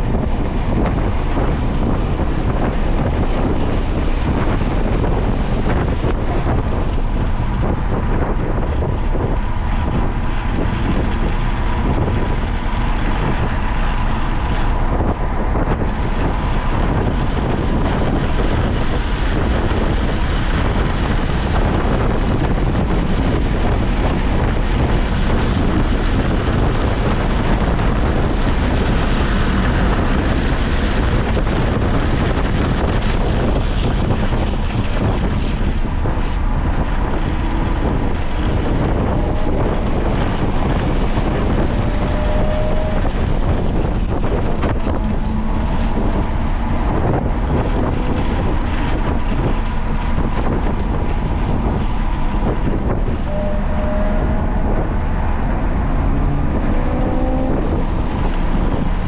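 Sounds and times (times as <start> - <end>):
car engine running: 0.0 - 59.0
wind and road noise: 0.0 - 59.0
wind buffeting microphone: 0.0 - 59.0.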